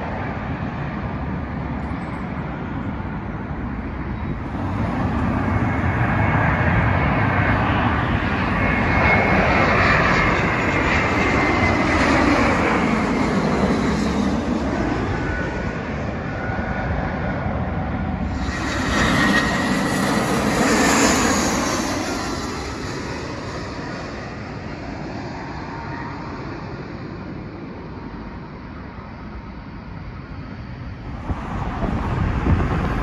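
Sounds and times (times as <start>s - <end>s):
high jet engine whine: 0.0s - 33.0s
jet airliner passing overhead: 0.0s - 33.0s.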